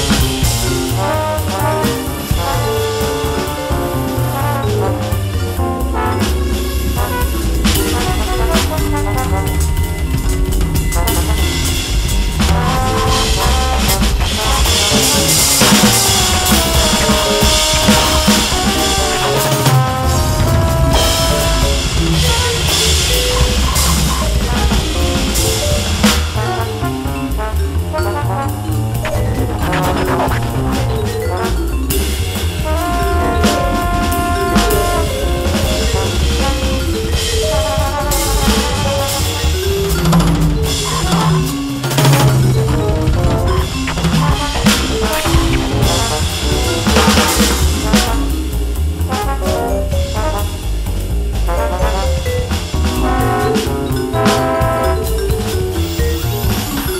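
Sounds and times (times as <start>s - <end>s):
keyboard-like notes: 0.0s - 48.6s
backing track with bass: 0.0s - 56.9s
electronic drum kit playing jazz: 0.0s - 56.9s.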